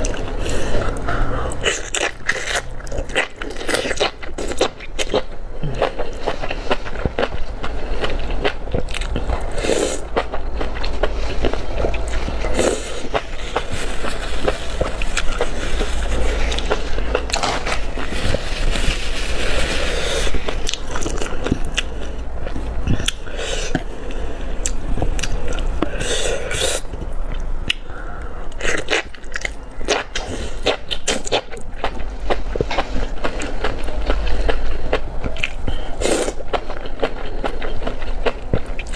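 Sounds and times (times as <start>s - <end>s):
close chewing and slurping: 0.0s - 38.9s
low steady hum: 0.0s - 38.9s.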